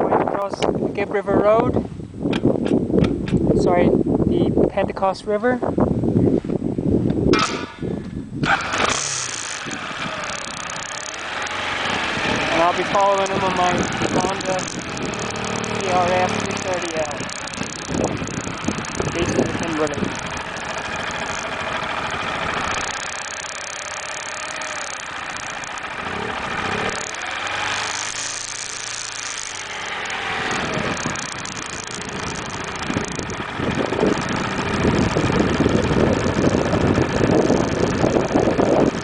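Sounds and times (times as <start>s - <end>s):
motorcycle engines running: 6.0s - 39.0s.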